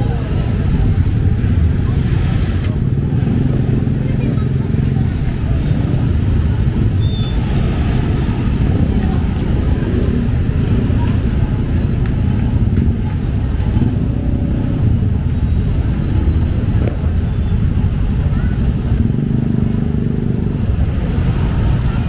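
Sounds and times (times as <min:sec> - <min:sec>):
crowd voices: 0:00.0 - 0:22.0
road traffic rumble: 0:00.0 - 0:22.0.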